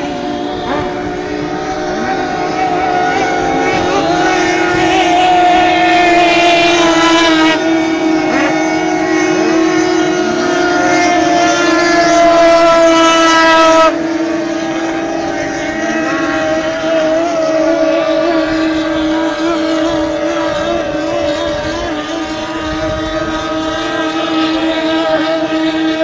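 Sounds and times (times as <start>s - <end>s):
powerboat engine whining: 0.0s - 26.0s.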